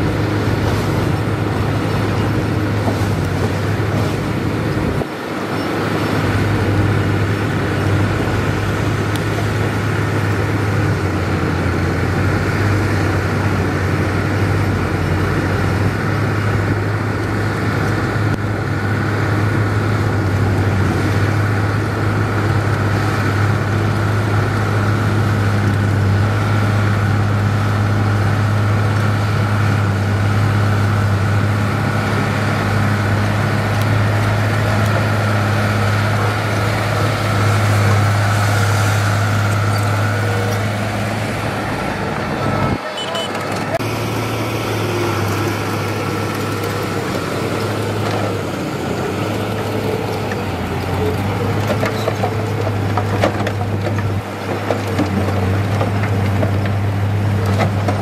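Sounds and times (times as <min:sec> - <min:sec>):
bulldozer diesel engine drone: 0:00.0 - 0:58.0.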